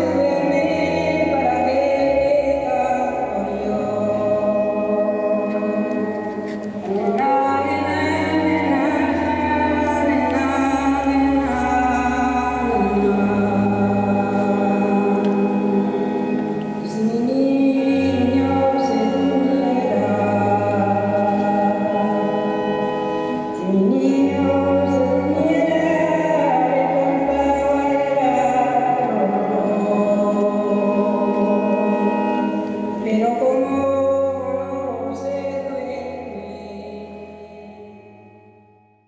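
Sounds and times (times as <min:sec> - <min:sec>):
slow choral chant: 0:00.0 - 0:38.0.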